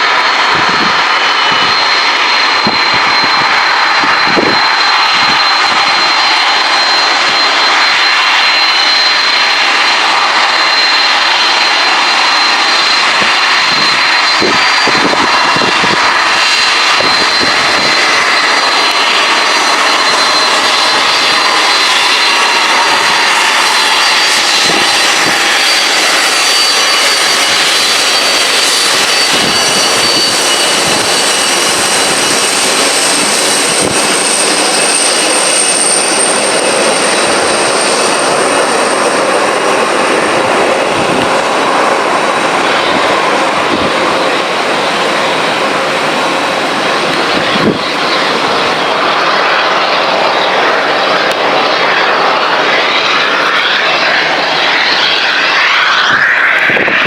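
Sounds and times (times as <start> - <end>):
jet engines running: 0.0 - 57.0
high-pitched fan whine: 0.1 - 57.0.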